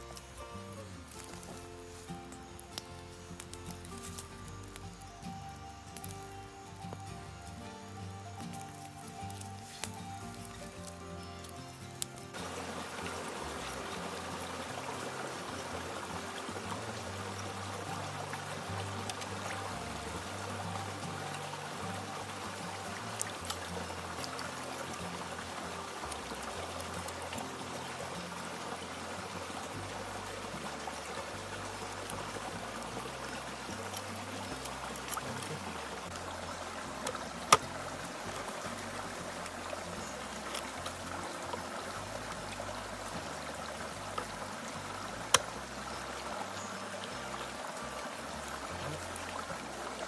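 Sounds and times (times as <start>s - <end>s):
stream trickling over rocks: 0.0s - 50.0s.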